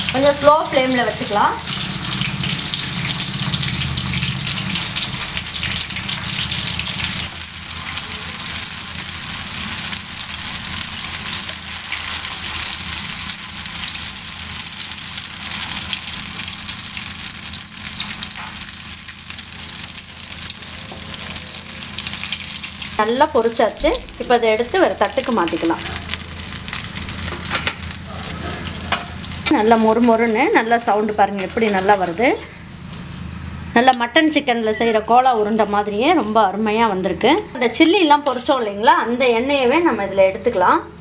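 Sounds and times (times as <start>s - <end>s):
food deep-frying in sizzling oil: 0.0s - 32.8s.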